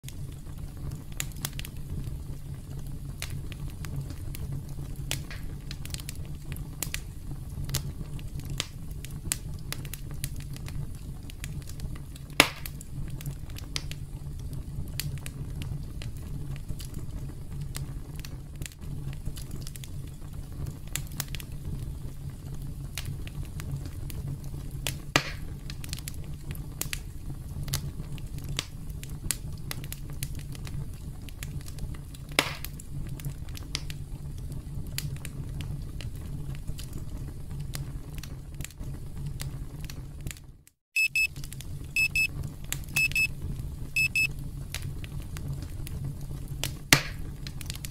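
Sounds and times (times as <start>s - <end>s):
campfire crackling: 0.0s - 40.5s, 41.1s - 47.9s
fire popping sharply: 0.1s - 22.3s, 22.9s - 34.2s, 41.0s - 47.9s.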